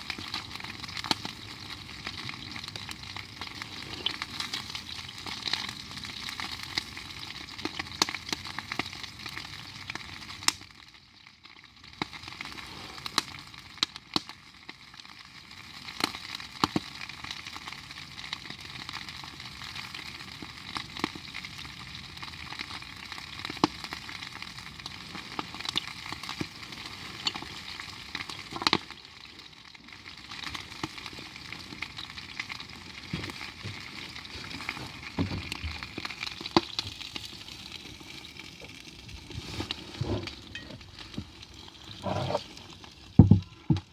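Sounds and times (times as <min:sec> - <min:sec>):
campfire pops and crackles: 0:00.0 - 0:43.9
food sizzling over fire: 0:00.0 - 0:43.9.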